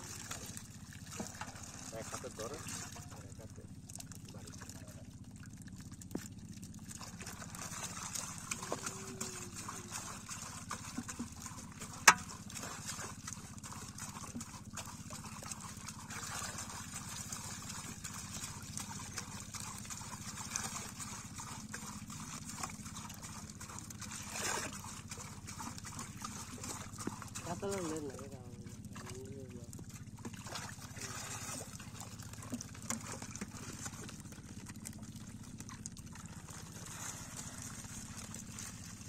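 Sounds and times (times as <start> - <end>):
steady low hum: 0.0 - 39.0
water sloshing and splashing: 0.0 - 39.0.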